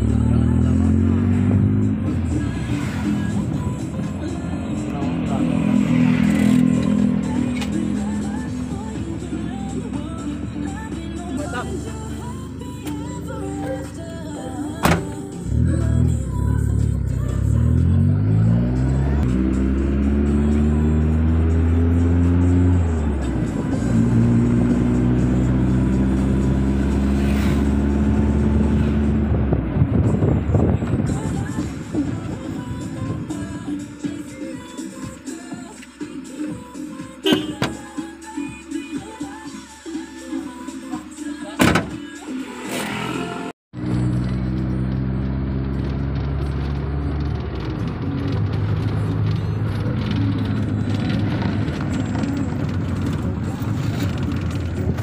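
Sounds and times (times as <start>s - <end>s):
music playing: 0.0s - 29.2s, 30.0s - 45.8s, 46.4s - 54.6s
engine and road noise in car: 0.0s - 55.0s.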